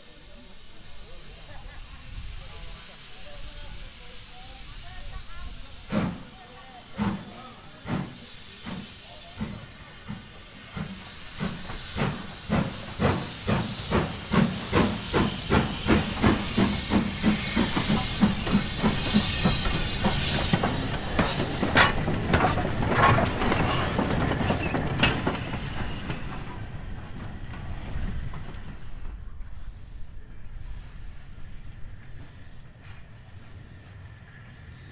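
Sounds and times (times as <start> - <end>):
steam hissing from drain cocks: 0.0 - 28.9
steam locomotive chuffing: 0.0 - 34.9.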